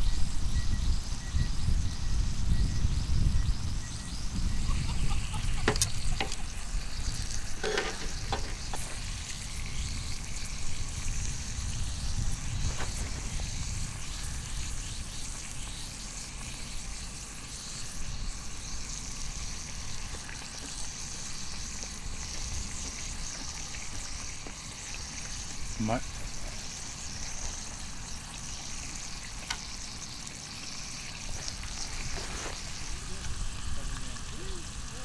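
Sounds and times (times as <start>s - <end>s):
meat sizzling on a griddle: 0.0s - 35.0s.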